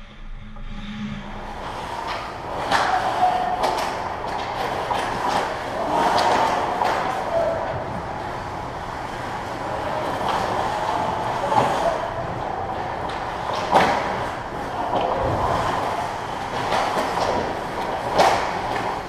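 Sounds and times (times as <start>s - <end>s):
skates scraping on ice: 1.4s - 19.0s
hockey sticks and puck clacking: 1.5s - 19.0s.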